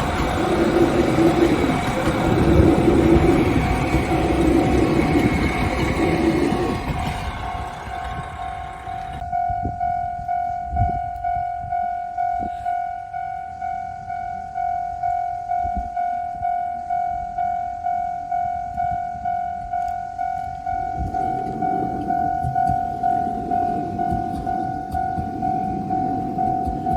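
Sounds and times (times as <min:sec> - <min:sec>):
level crossing warning bell: 0:00.0 - 0:26.9
passing train: 0:00.0 - 0:26.9.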